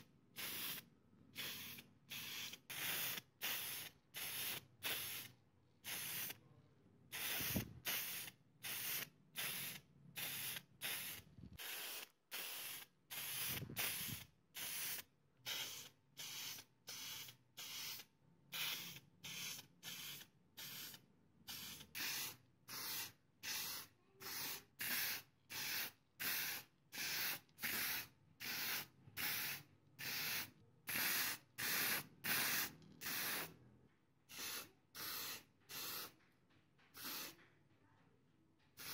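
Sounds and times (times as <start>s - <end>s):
spray can hissing: 0.4s - 0.8s, 1.4s - 5.3s, 5.9s - 6.3s, 7.1s - 33.5s, 34.3s - 36.2s, 36.9s - 37.4s.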